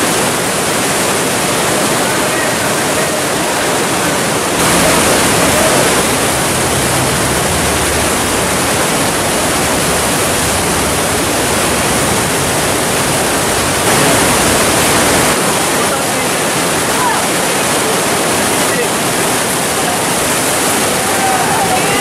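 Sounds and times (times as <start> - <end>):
whitewater rapids rushing: 0.0 - 22.0.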